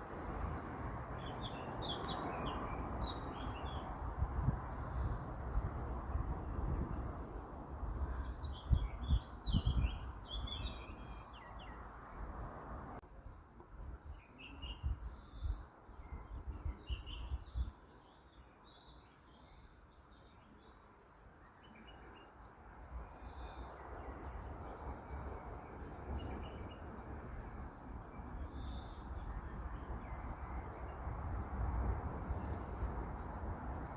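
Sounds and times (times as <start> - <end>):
small birds chirping: 0.4 - 12.0, 13.2 - 33.9.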